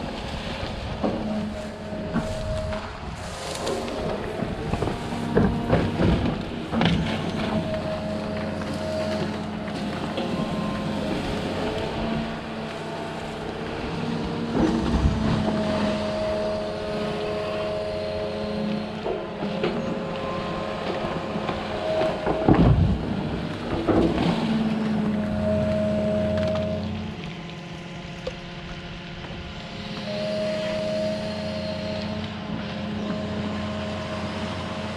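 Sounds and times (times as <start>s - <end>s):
excavator engine and hydraulics: 0.0s - 34.9s.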